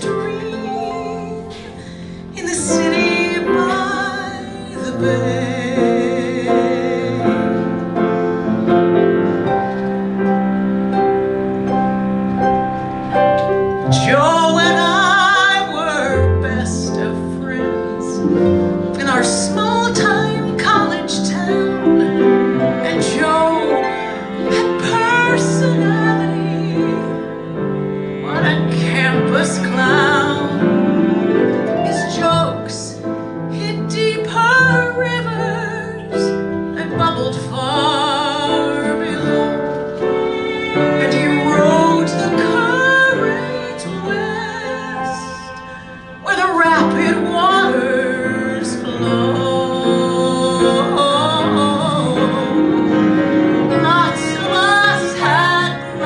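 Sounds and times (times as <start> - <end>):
woman singing into a microphone: 0.0 - 7.7, 13.9 - 30.7, 31.7 - 39.8, 40.5 - 56.0
piano accompaniment: 0.0 - 56.0.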